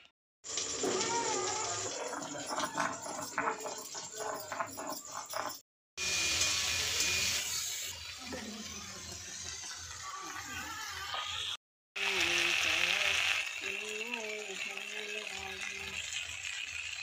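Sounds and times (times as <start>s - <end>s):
okra frying in a wok: 0.0s - 3.4s, 6.0s - 7.3s, 7.9s - 17.0s.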